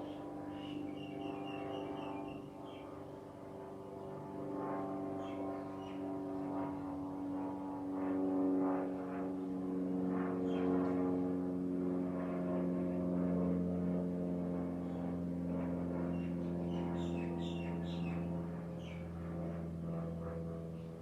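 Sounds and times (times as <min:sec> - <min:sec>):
steady engine drone: 0:00.0 - 0:21.0.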